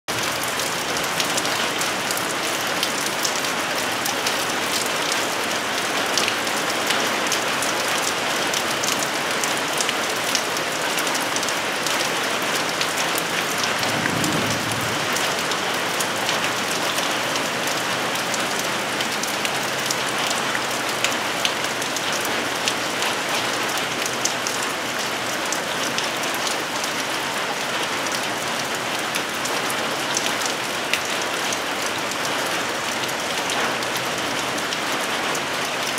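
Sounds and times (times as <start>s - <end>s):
rain on a metal roof: 0.1s - 35.9s.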